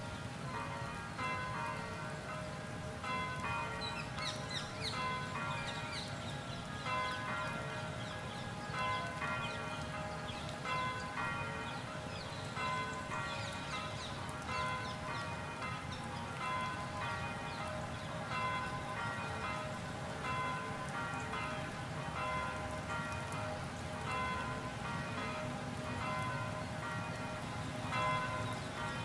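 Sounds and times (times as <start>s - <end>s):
church bells ringing: 0.3s - 29.0s.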